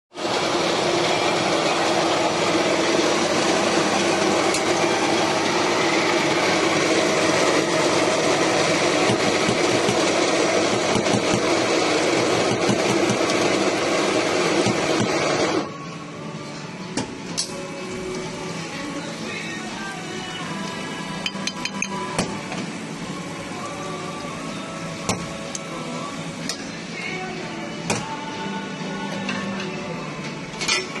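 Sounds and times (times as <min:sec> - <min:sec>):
coffee machine humming and hissing: 0:00.1 - 0:31.0.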